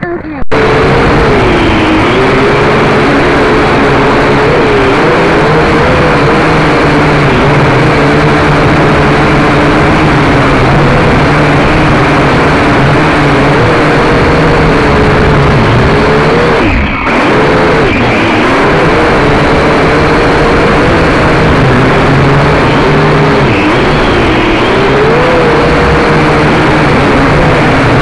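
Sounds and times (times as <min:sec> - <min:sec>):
drone motors buzzing: 0:00.0 - 0:28.0.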